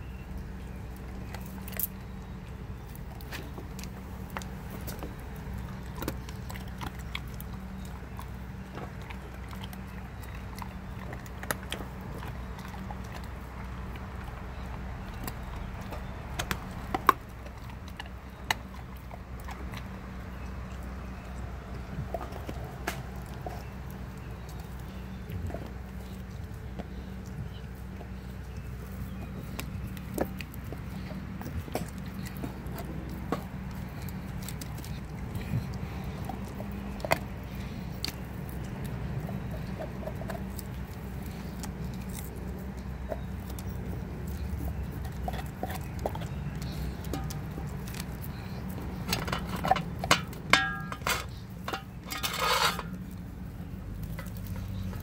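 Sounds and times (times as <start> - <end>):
dog chewing with crunches: 0.0 - 55.0
steady low hum: 0.0 - 55.0
teeth clicking on bone: 0.0 - 55.0.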